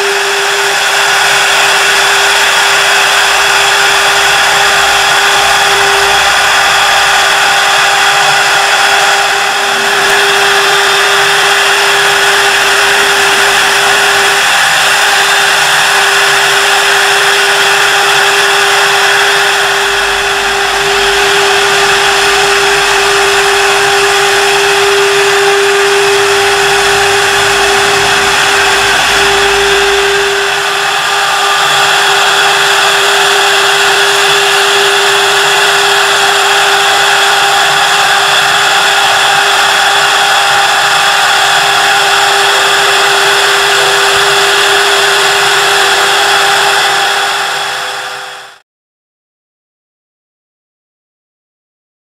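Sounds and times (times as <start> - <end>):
lathe motor whine: 0.0 - 48.6.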